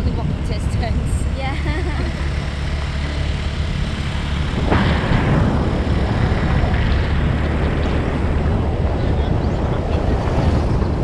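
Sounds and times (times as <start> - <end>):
road noise: 0.0 - 11.0
rush of noise: 0.0 - 11.0
vehicle engine drone: 0.0 - 11.0
wind on microphone: 0.0 - 11.0.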